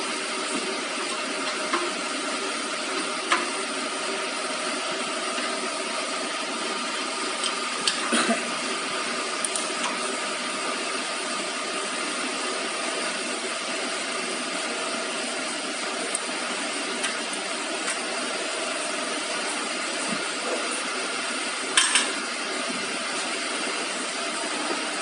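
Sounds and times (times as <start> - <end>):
steady machine noise: 0.0 - 25.0.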